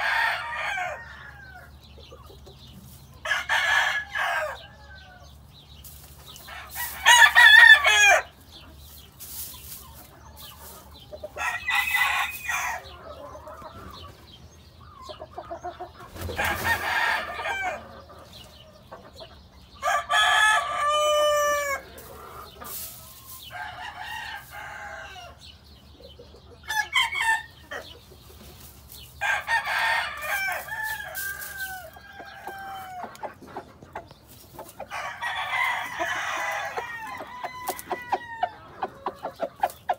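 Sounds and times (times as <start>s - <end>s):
roosters crowing: 0.0s - 1.9s, 2.9s - 14.2s, 16.0s - 18.2s, 19.7s - 25.9s, 26.6s - 28.1s, 28.9s - 39.9s.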